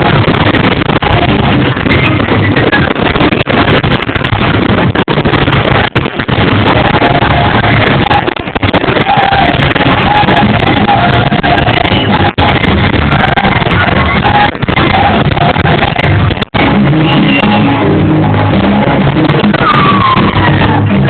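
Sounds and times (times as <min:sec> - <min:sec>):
loud distorted show music: 0:00.0 - 0:21.0.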